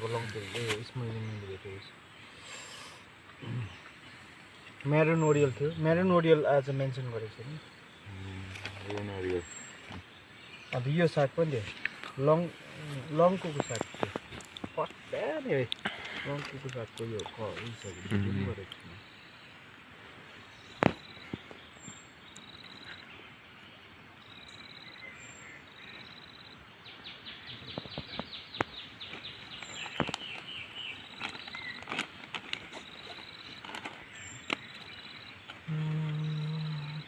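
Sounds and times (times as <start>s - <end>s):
forest birds calling: 0.0s - 37.0s.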